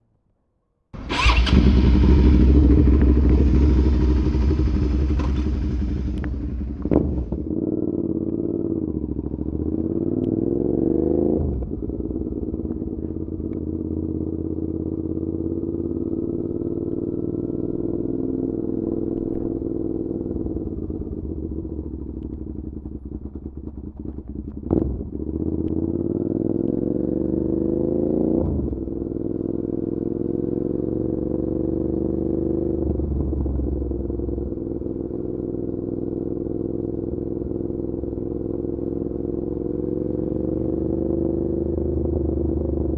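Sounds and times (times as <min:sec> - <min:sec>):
motorcycle accelerating through gears: 0:01.0 - 0:42.9.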